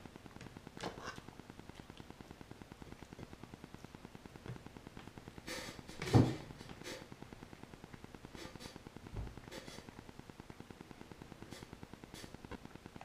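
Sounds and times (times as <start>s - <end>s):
faint fast steady ticking: 0.0s - 13.0s.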